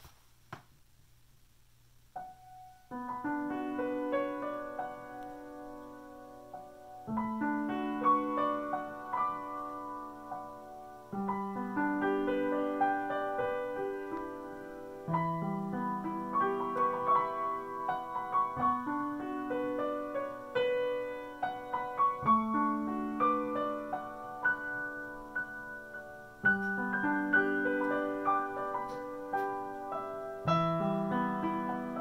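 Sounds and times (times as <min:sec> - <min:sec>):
upright piano playing: 0:02.2 - 0:32.0.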